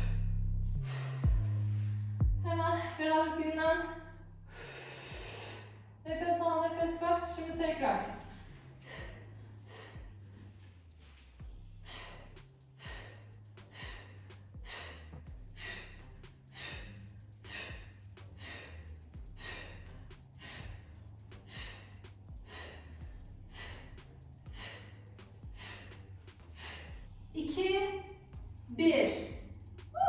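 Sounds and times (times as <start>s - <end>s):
woman breathing hard: 0.0s - 2.4s, 4.5s - 6.0s, 8.1s - 30.0s
faint background music with bass: 0.0s - 30.0s.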